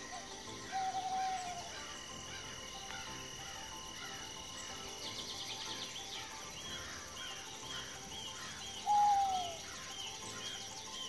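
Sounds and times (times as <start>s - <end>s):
bird chirps: 0.0s - 11.0s
insect trills: 0.0s - 11.0s.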